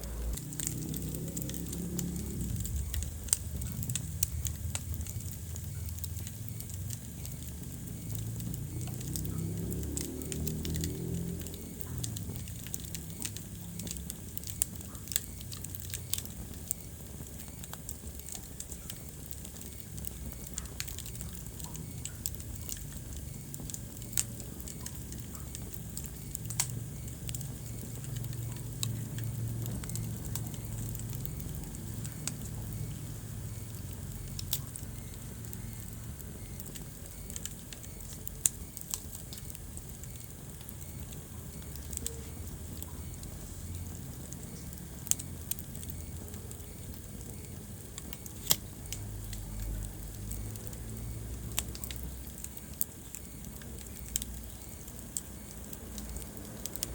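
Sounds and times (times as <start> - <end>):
low rumble of flames: 0.0 - 56.9
wood fire crackling and popping: 0.0 - 56.9.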